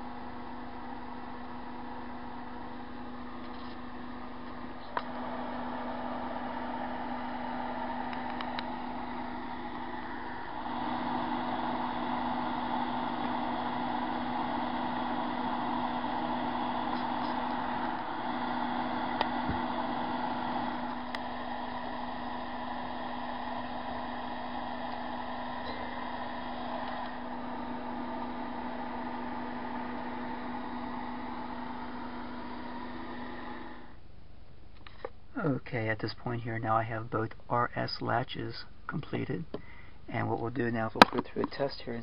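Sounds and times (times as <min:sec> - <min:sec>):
background hum with hiss: 0:00.0 - 0:42.0.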